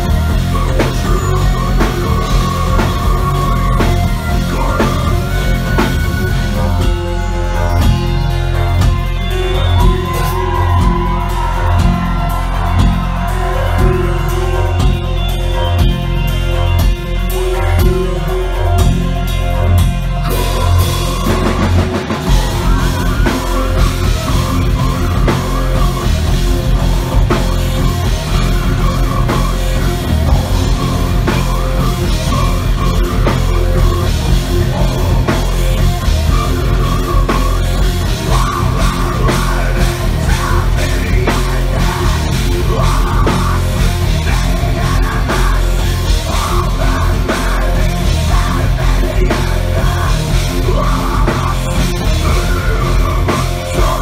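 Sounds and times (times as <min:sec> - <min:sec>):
bass: 0:00.0 - 0:54.0
distorted electric guitar: 0:00.0 - 0:54.0
drum kit: 0:00.0 - 0:54.0.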